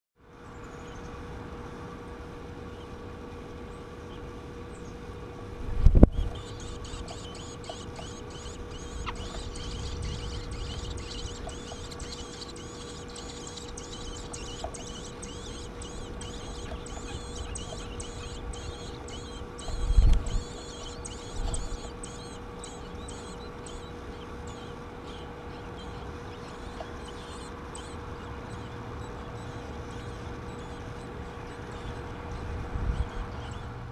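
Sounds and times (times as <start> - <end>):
faint steady hum: 0.2 - 33.9
nestlings chirping: 6.1 - 33.7.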